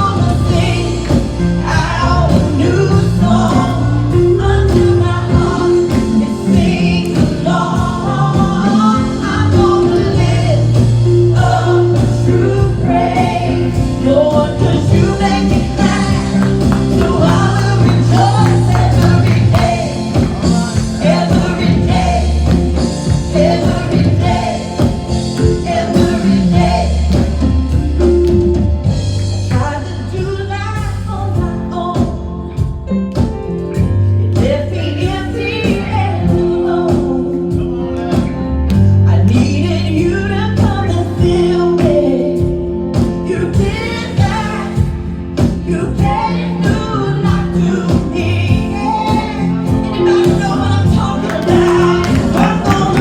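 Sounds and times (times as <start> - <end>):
gospel band with singers: 0.0 - 53.0.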